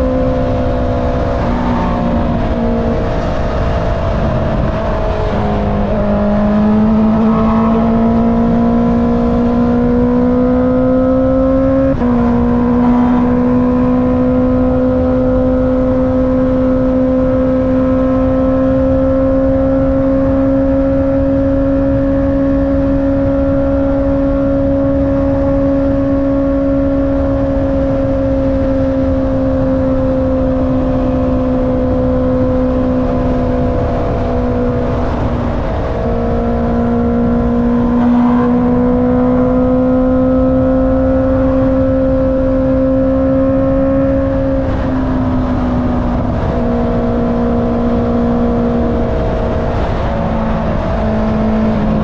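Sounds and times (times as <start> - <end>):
rushing wind: 0.0 - 52.0.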